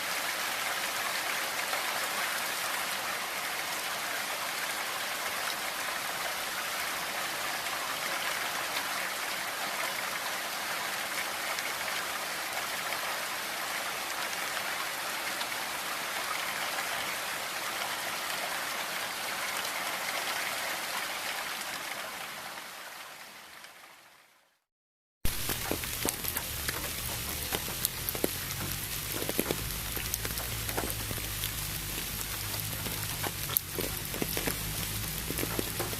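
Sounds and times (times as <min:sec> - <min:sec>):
steady rain: 0:00.0 - 0:24.6, 0:25.2 - 0:35.9.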